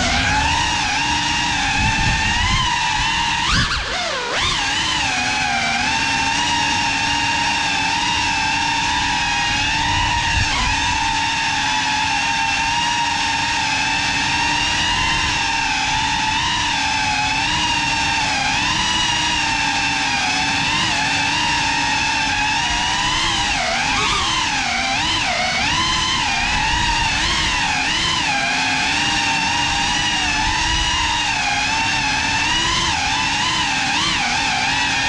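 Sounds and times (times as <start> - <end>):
drone propellers buzzing whine: 0.0 - 35.0.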